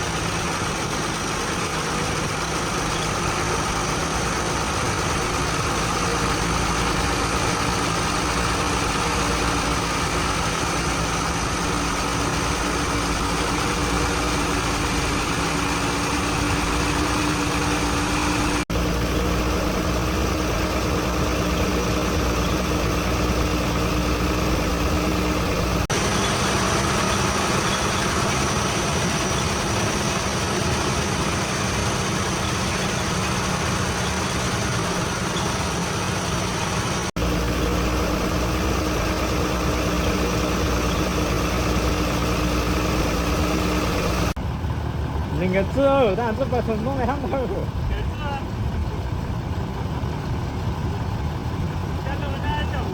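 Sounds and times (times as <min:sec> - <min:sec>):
heavy vehicle diesel engine running: 0:00.0 - 0:52.9.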